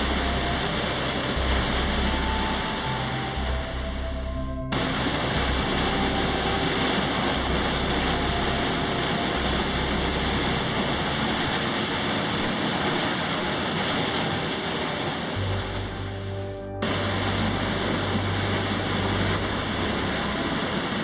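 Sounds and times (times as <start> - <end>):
waterfall roaring: 0.0 - 4.0, 4.7 - 21.0.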